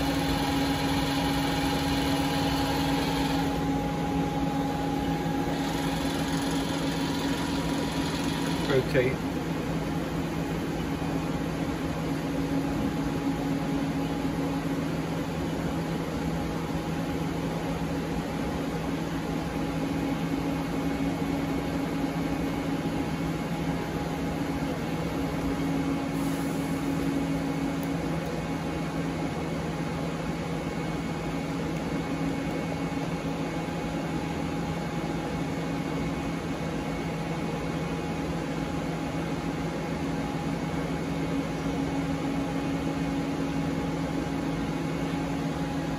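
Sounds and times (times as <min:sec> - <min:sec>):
lathe machine hum: 0:00.0 - 0:45.9.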